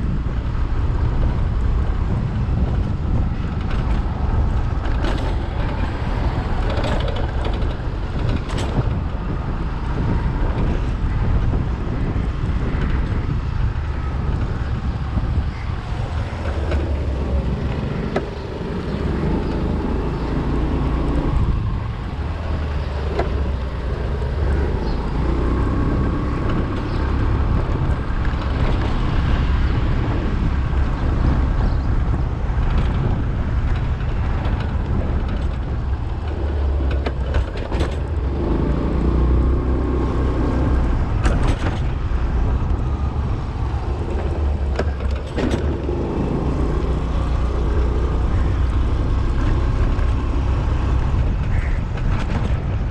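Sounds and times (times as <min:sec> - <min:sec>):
scooter engine and road noise: 0:00.0 - 0:52.9.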